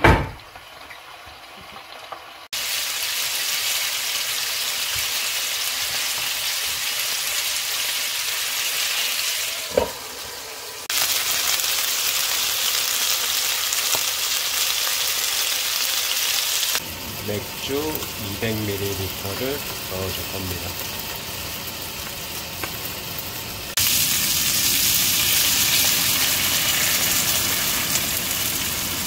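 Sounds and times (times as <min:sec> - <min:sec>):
chicken sizzling in a frying pan: 0:00.1 - 0:29.0.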